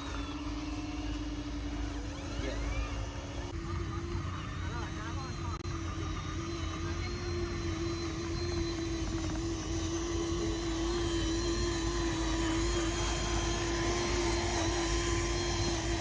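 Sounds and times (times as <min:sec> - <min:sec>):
small electric motor whine: 0:00.0 - 0:16.0.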